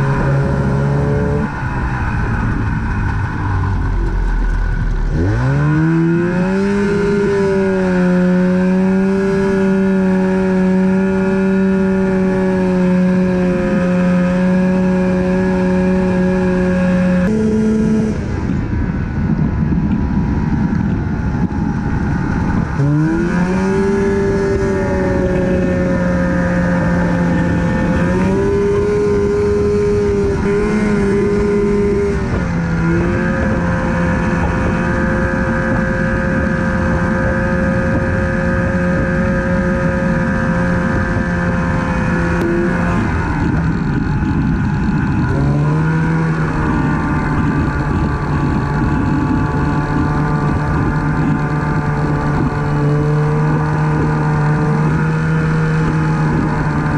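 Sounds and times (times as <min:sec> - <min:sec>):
snowmobile engine revving: 0:00.0 - 0:18.4, 0:21.4 - 0:56.9.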